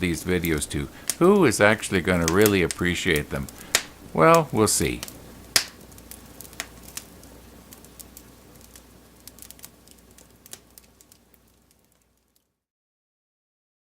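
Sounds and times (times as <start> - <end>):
wood fire crackling faintly: 0.0 - 12.7.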